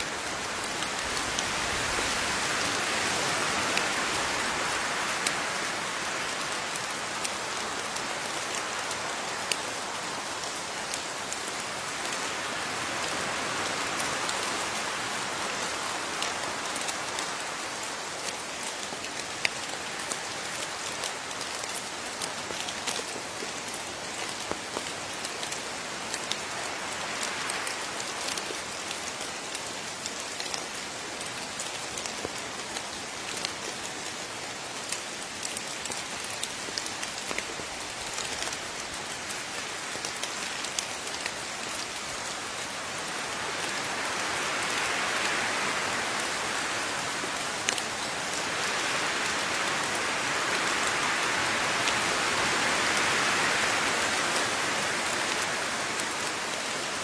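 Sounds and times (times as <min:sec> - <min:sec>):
raindrops ticking on a surface: 0:00.0 - 0:57.0
steady rain hiss: 0:00.0 - 0:57.0.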